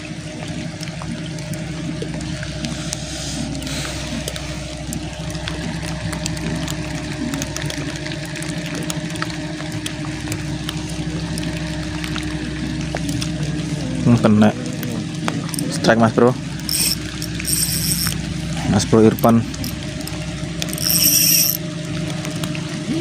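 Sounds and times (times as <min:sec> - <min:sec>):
heavy rain on water: 0:00.0 - 0:23.0
steady low hum: 0:00.0 - 0:23.0.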